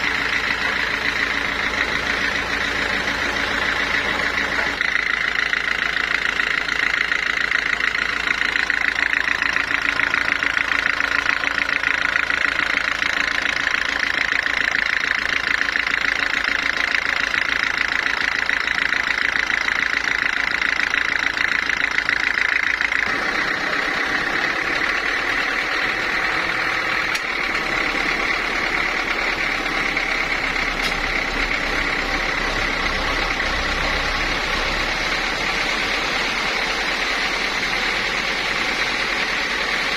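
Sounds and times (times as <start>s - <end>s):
sawmill machinery whine: 0.0s - 39.9s.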